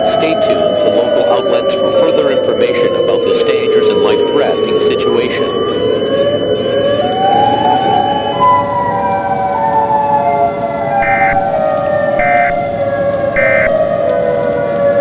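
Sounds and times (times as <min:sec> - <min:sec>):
sirens wailing: 0:00.0 - 0:15.0.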